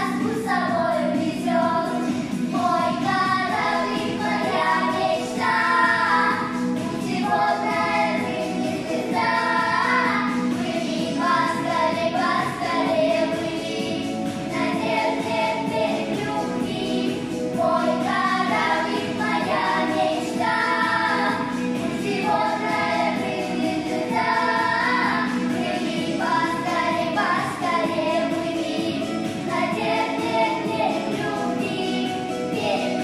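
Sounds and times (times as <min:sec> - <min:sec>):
children singing pop song: 0:00.0 - 0:33.0
instrumental backing track: 0:00.0 - 0:33.0.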